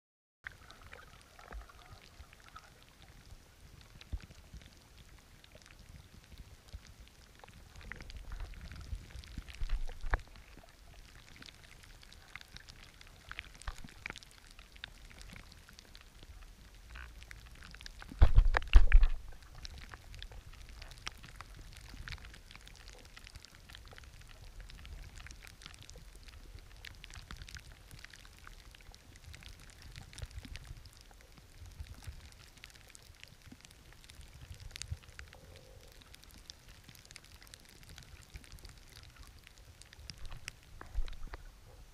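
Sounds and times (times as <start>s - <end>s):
underwater clicks and crackles: 0.4s - 41.9s
underwater watery wash: 0.4s - 41.9s.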